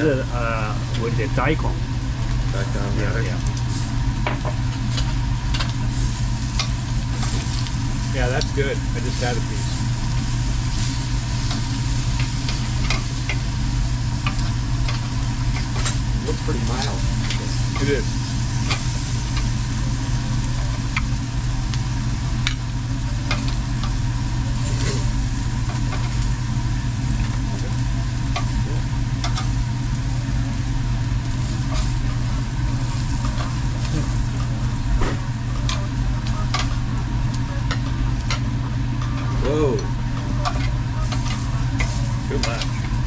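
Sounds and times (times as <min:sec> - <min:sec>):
low hum: 0:00.0 - 0:43.0
meat sizzling on a grill: 0:00.0 - 0:43.0
crackles and clicks: 0:01.8 - 0:43.0.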